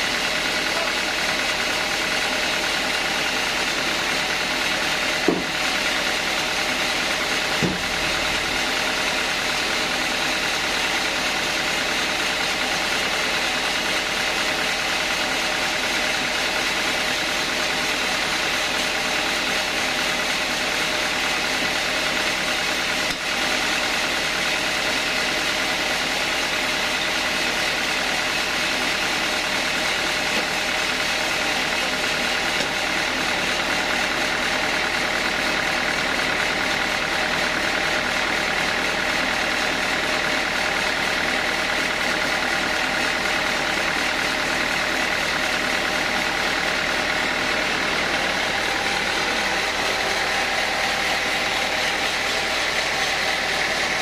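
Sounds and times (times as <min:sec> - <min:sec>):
engine-driven saw running: 0:00.0 - 0:54.0.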